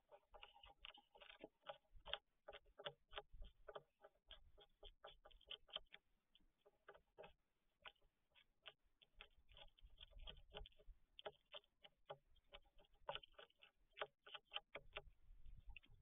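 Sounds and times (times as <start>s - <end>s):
animal crunching seeds: 0.0s - 16.0s.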